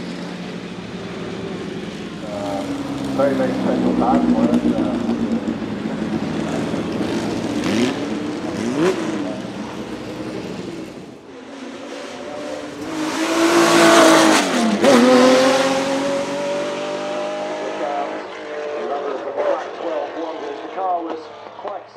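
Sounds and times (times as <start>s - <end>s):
race car engine accelerating hard: 0.0s - 21.6s.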